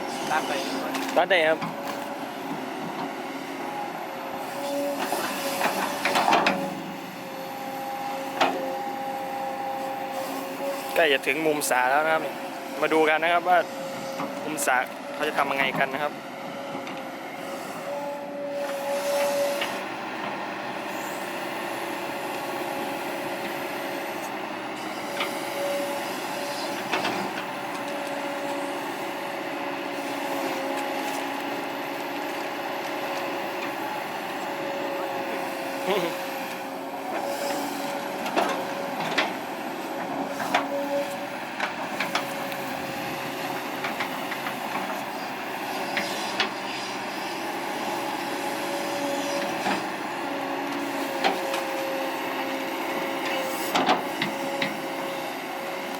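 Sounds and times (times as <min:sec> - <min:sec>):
excavator running with whine: 0:00.0 - 0:55.9.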